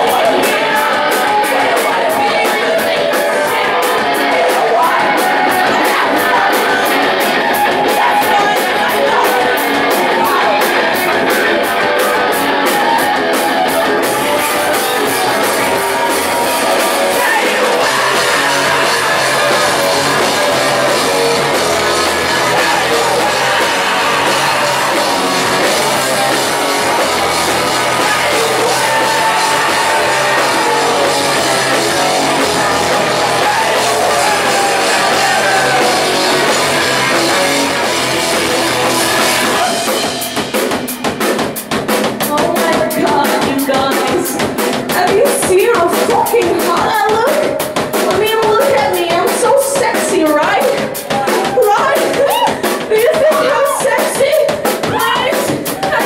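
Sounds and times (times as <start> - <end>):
person singing: 0.0 - 40.6, 42.2 - 56.0
live rock band playing: 0.0 - 56.0.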